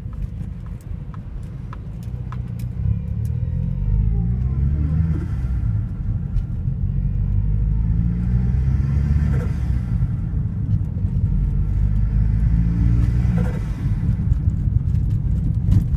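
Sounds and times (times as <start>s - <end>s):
engine revving with low rumble: 0.0s - 15.9s.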